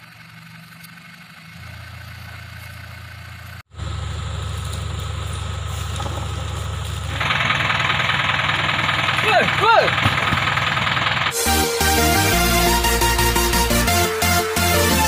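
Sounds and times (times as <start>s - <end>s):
fuller louder noise: 0.0s - 13.9s
lorry engine idling: 0.0s - 15.0s.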